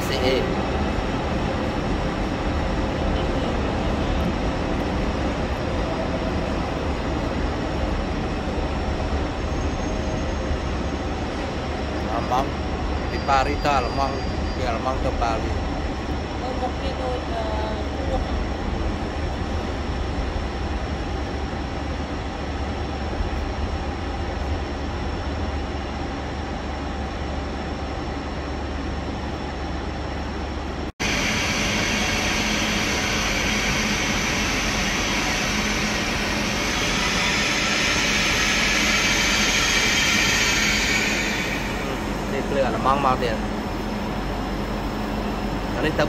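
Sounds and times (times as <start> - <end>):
high-speed train hiss and whir: 0.0 - 46.0
platform ambience low hum: 0.0 - 46.0.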